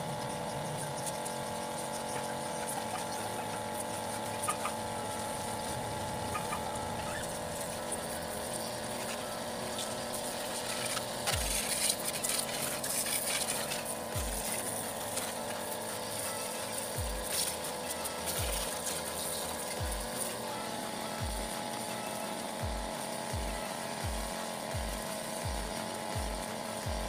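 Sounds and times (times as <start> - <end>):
washer pump motor hum: 0.0 - 27.0.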